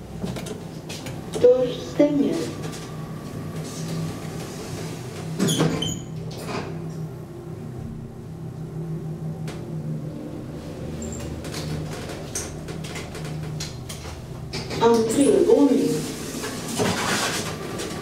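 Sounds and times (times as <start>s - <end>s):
elevator low hum: 0.0s - 18.0s.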